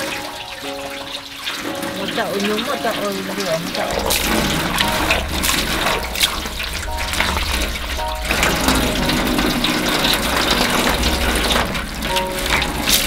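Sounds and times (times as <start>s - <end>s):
water splashing into basin: 0.0s - 13.0s.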